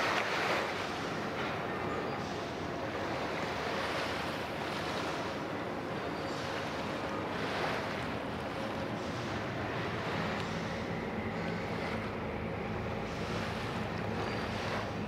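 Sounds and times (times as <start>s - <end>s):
faint low engine hum: 0.0s - 15.0s
water noise: 0.0s - 15.0s
wind: 0.0s - 15.0s.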